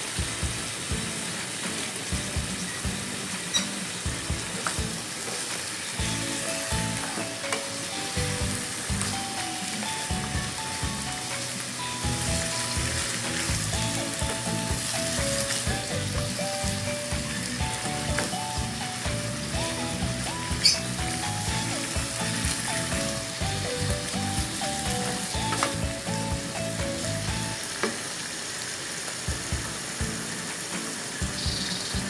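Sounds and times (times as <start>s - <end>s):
meat sizzling in a wok: 0.0s - 32.0s
simple background melody: 0.1s - 27.8s, 29.3s - 32.0s.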